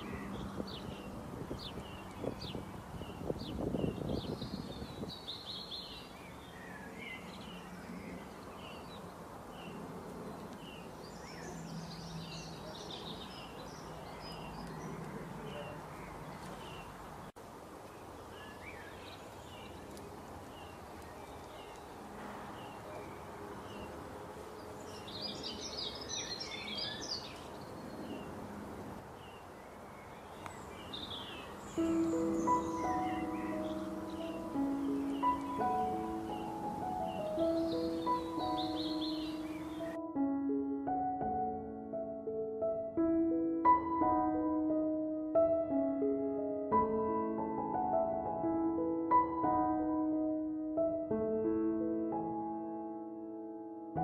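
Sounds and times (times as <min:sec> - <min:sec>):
songbirds chirping: 0:00.0 - 0:51.0
outdoor background hiss: 0:00.0 - 0:54.0.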